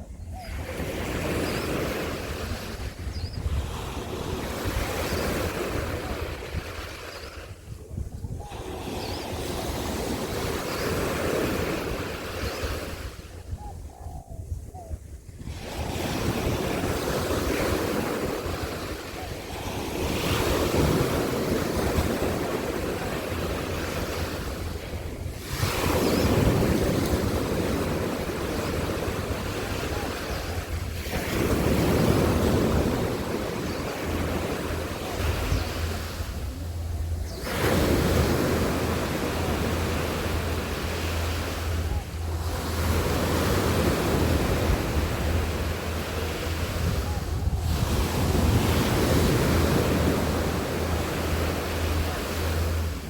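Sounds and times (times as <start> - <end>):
sea waves washing onto beach: 0.0 - 13.4, 15.4 - 53.0
wind rumbling on microphone: 0.0 - 53.0.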